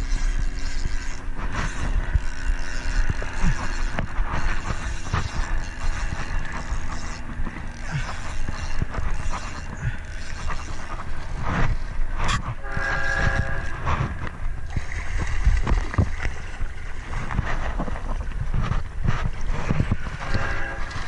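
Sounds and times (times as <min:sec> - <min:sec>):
camera handling rumble: 0:00.0 - 0:21.0
wind noise: 0:00.0 - 0:21.0.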